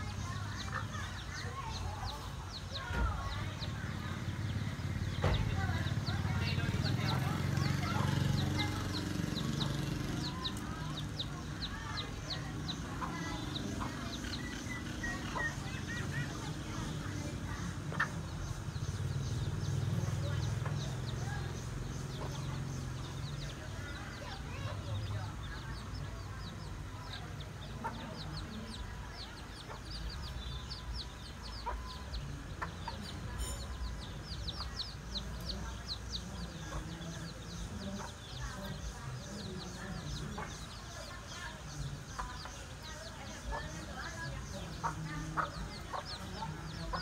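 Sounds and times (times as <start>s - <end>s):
baby chicks peeping: 0.0s - 47.0s
hen clucking: 5.2s - 19.0s, 20.1s - 47.0s.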